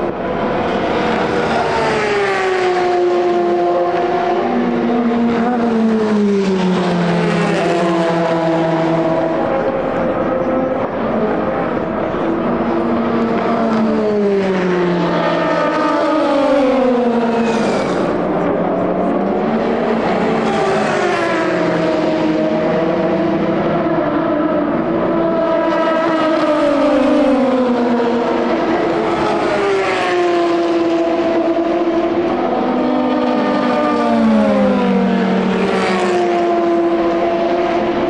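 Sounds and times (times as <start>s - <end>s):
racing car engines: 0.0s - 38.0s.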